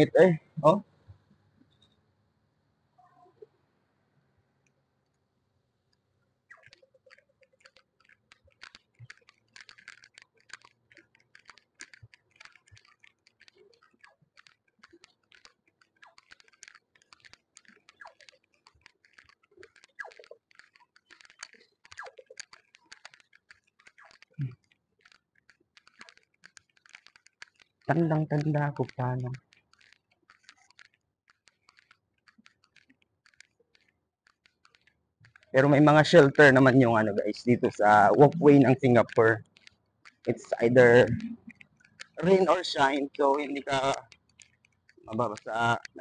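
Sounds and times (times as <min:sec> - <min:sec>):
faint irregular clicking and scratching: 0:00.0 - 0:02.2, 0:02.9 - 0:03.7, 0:04.3 - 0:46.0.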